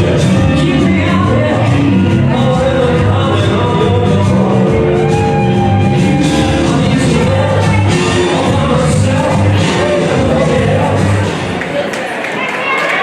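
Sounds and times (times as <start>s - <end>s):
loud dance music: 0.0s - 11.9s.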